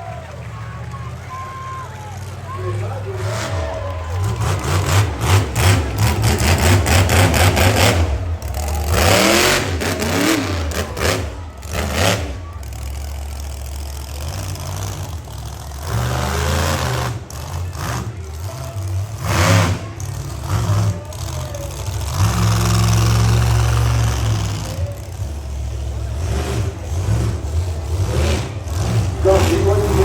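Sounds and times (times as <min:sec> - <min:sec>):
engine stuttering crackle: 0:00.0 - 0:30.0
monster truck engine revving: 0:00.0 - 0:30.0.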